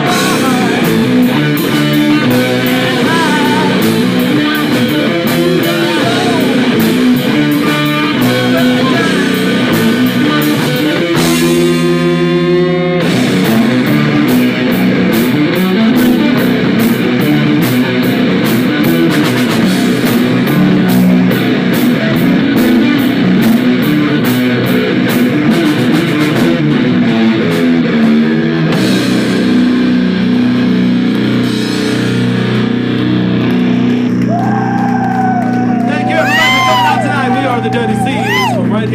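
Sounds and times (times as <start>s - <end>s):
electric guitars: 0.0s - 38.9s
pounding drum kit: 0.0s - 38.9s.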